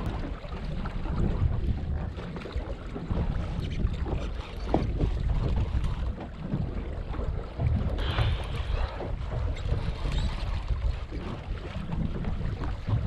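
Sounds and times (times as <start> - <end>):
faint sea noise: 0.0 - 13.0
wind buffeting microphone: 0.0 - 13.0.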